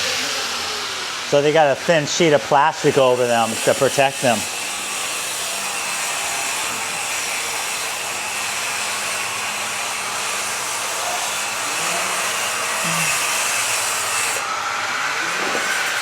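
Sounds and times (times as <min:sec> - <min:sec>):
power tool grinding marble: 0:00.0 - 0:16.0.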